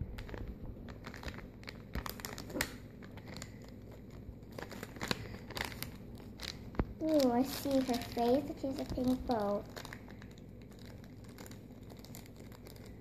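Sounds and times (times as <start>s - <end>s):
packet crinkling and tearing: 0.0s - 13.0s.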